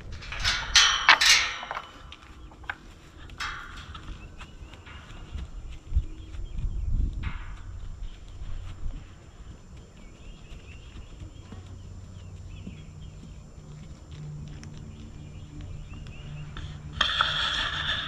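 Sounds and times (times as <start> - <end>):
low steady hum: 0.0 - 18.0
low wind rumble: 0.0 - 18.0
faint bird chirps: 2.0 - 17.7.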